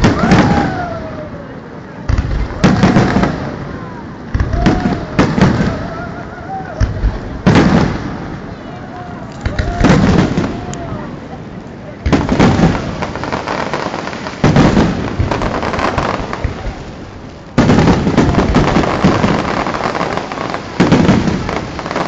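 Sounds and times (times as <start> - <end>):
firework crackle: 0.0 - 22.0.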